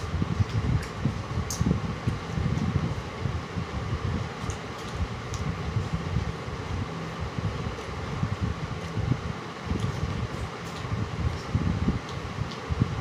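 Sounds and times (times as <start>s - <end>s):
electric fan wind rumble: 0.0s - 13.0s.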